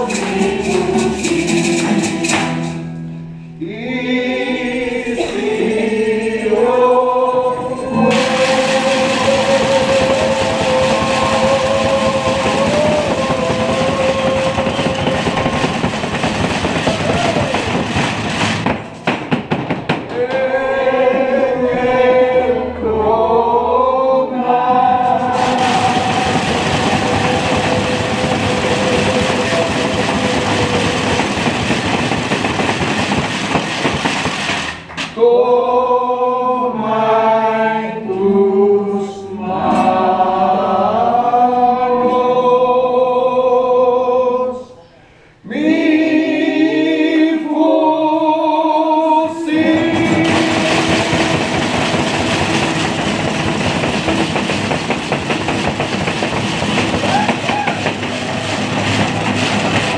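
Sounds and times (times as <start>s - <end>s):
group of people singing: 0.0s - 2.9s, 3.6s - 17.8s, 20.0s - 33.3s, 35.1s - 44.8s, 45.4s - 59.9s.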